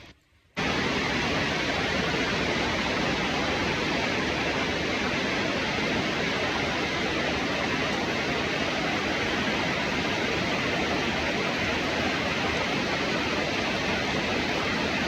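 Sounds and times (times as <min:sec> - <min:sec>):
heavy rain falling: 0:00.6 - 0:15.0.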